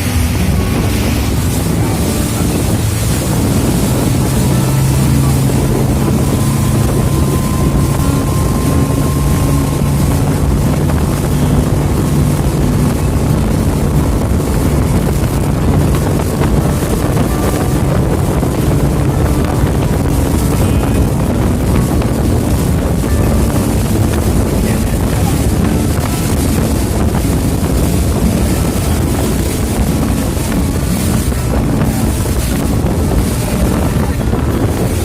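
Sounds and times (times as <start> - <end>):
boat engine droning: 0.0 - 35.0
wind buffeting microphone: 0.0 - 35.0.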